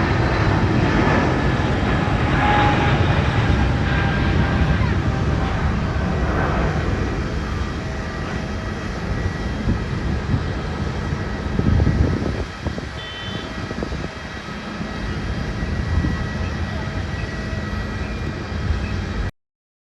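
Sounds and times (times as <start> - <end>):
jet engines roaring: 0.0 - 19.3.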